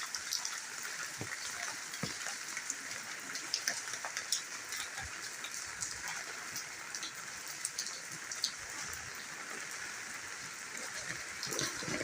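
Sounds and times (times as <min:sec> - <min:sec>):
rain falling steadily: 0:00.0 - 0:12.0
raindrops tapping surfaces: 0:00.0 - 0:12.0.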